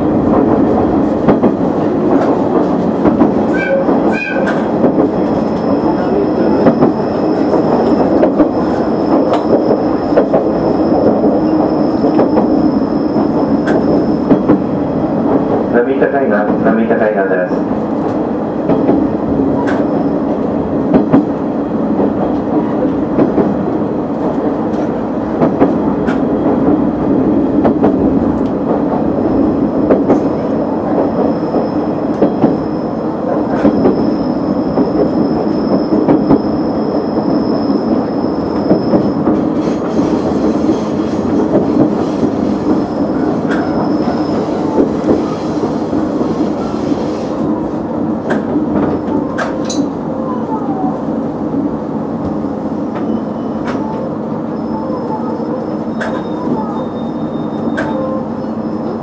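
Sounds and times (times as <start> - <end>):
diesel railcar engine hum: 0.0 - 59.0.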